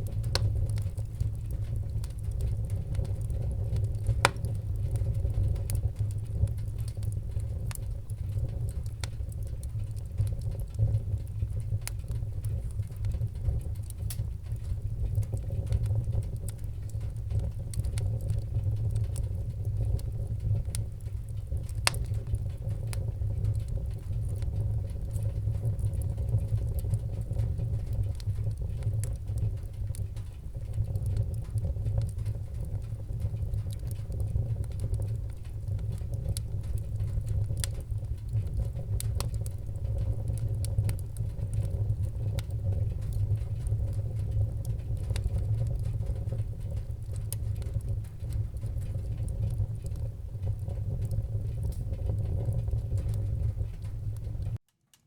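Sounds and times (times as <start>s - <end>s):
loud fire snaps: 0.0s - 54.6s
wood fire crackling: 0.0s - 55.0s.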